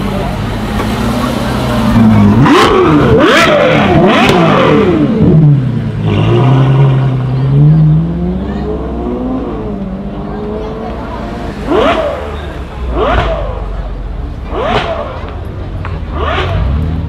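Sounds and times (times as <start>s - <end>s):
sports car engine revving: 0.0s - 17.0s.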